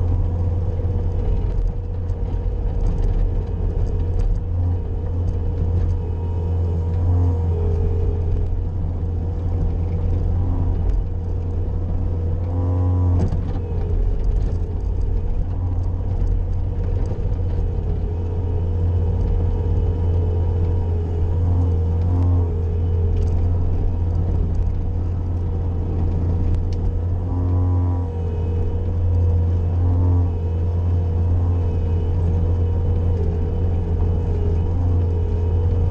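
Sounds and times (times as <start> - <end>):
diesel engine running: 0.0 - 35.9
steady whine: 0.0 - 35.9.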